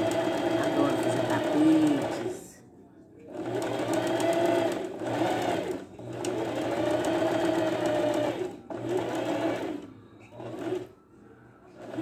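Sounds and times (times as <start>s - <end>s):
sewing machine stitching: 0.0s - 2.4s, 3.3s - 10.9s, 11.8s - 12.0s.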